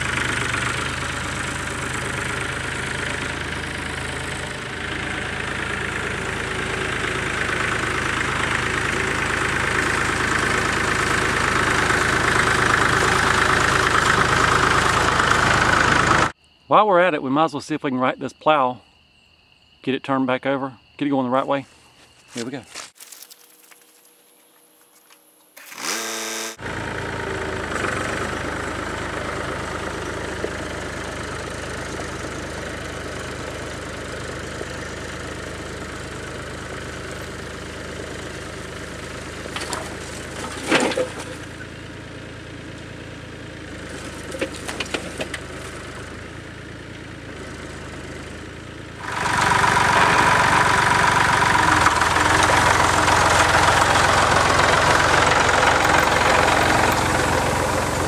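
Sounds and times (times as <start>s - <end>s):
closer tractor engine: 0.0s - 17.1s, 25.0s - 58.0s
tractor engine starting and running: 0.0s - 17.7s, 24.9s - 58.0s.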